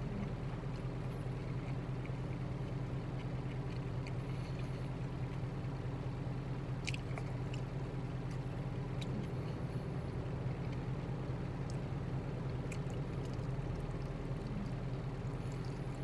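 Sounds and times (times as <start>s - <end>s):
chewing and biting: 0.0s - 16.0s
low engine hum: 0.0s - 16.0s.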